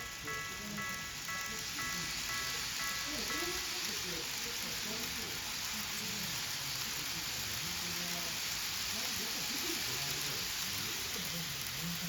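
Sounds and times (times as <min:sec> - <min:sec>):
people talking indistinctly: 0:00.0 - 0:12.0
room noise hiss: 0:00.0 - 0:12.0.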